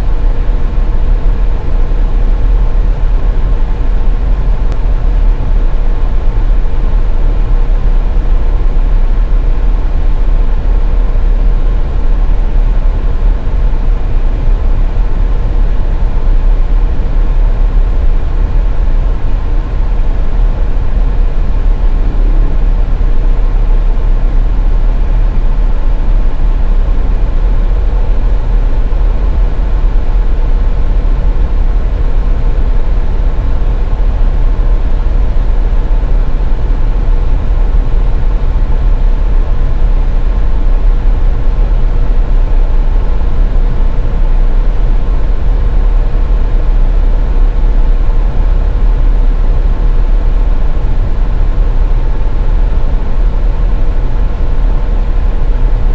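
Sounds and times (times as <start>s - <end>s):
car road noise rumble: 0.0s - 55.9s
faint steady hum: 0.0s - 55.9s.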